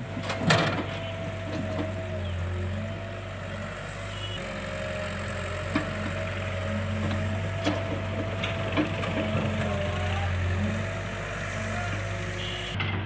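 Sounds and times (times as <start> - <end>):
diesel engines droning: 0.0 - 13.0
high engine whine: 0.0 - 13.0.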